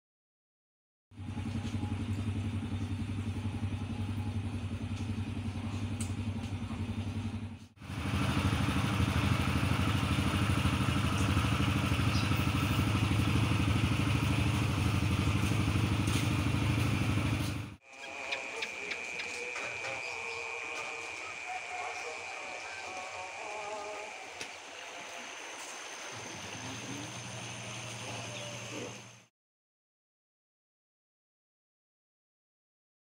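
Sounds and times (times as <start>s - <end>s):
small engine running: 1.2s - 29.3s.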